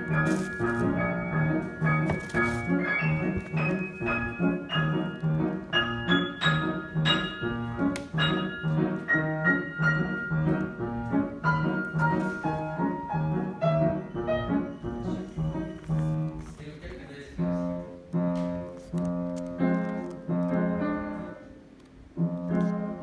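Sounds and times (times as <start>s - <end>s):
piano chords: 0.0s - 23.0s.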